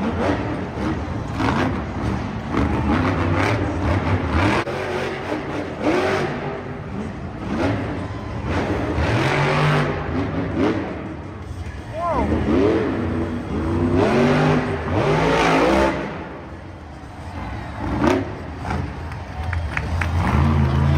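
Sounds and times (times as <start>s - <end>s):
truck engine revving hard: 0.0s - 19.2s, 19.8s - 20.9s.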